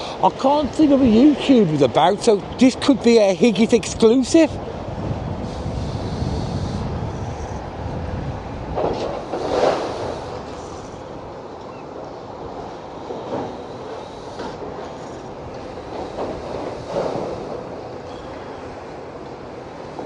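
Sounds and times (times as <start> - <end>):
excavator rumbling: 0.0 - 20.0.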